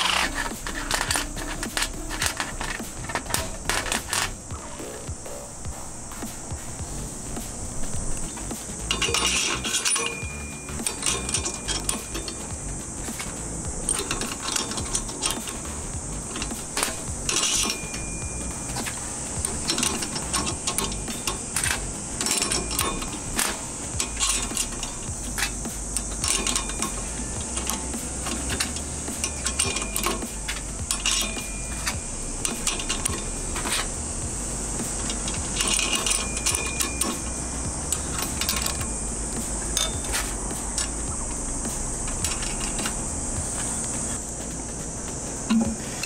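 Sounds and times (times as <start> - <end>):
metal parts clinking: 0.0 - 4.4, 8.2 - 44.3
insects droning: 0.0 - 46.0.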